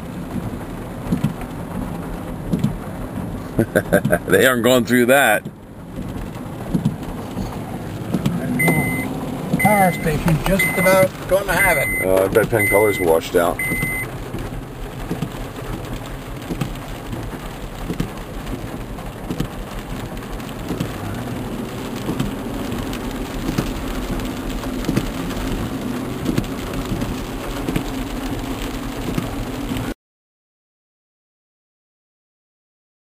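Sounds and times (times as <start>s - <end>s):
rain tapping on hard surface: 0.0s - 30.0s.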